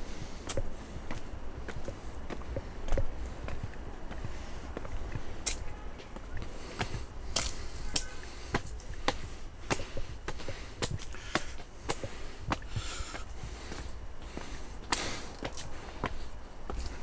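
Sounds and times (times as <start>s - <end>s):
footsteps on trail: 0.0s - 17.0s.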